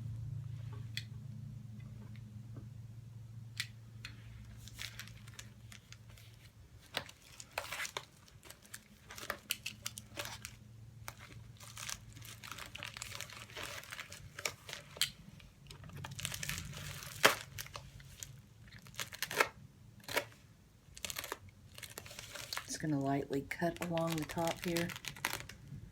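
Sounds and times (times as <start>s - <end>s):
packaging crinkling and rustling: 4.2s - 25.9s.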